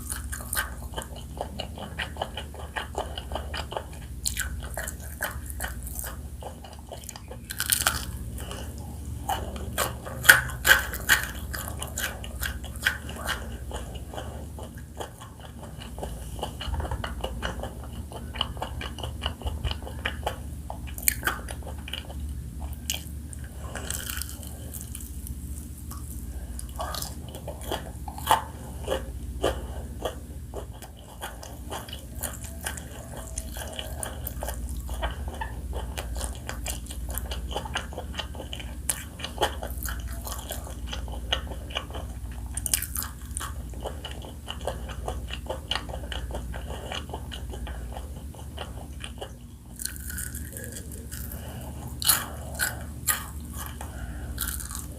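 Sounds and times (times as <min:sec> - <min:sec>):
crunching fried chicken: 0:00.0 - 0:54.9
steady low hum: 0:00.0 - 0:54.9
wet chewing: 0:00.0 - 0:54.9.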